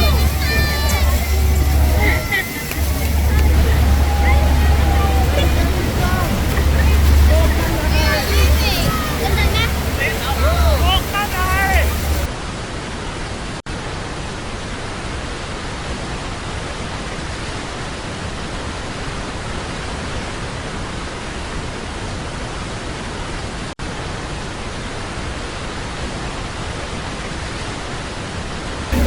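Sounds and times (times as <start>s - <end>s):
waterfall roaring: 0.0s - 28.2s.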